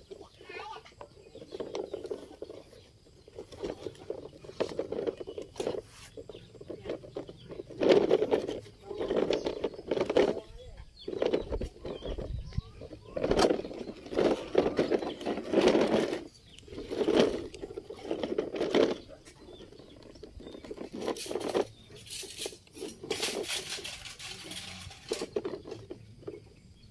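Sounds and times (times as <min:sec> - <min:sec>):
toy truck scraping over dirt: 0:00.0 - 0:26.9.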